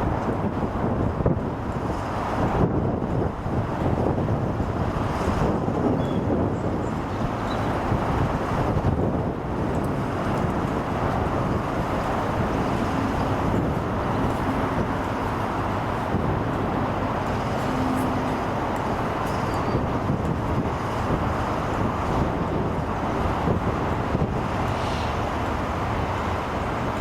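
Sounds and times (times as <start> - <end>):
passing vehicle rumble: 0.0 - 27.0.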